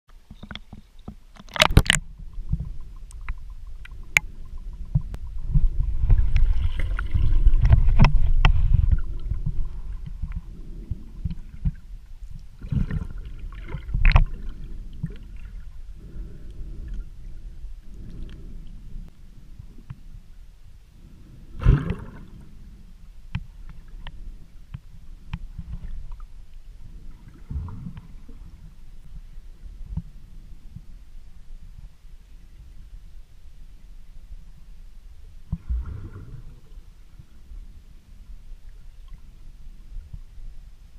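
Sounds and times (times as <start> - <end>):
muffled water sloshing underwater: 0.1 - 40.9.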